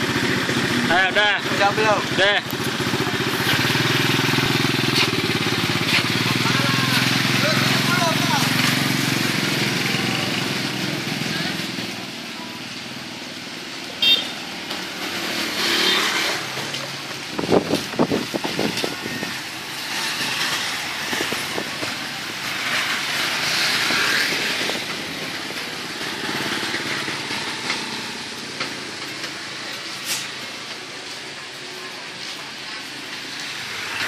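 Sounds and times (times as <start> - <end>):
motorcycles passing: 0.0 - 34.0
street traffic: 0.0 - 34.0.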